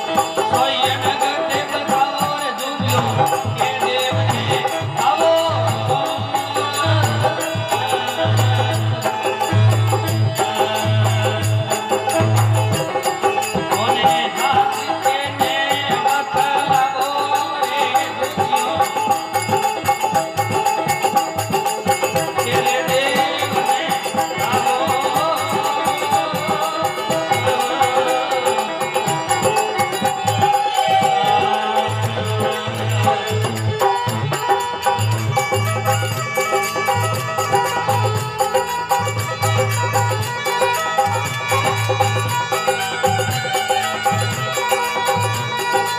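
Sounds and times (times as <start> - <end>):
rattling hand percussion: 0.0 - 45.9.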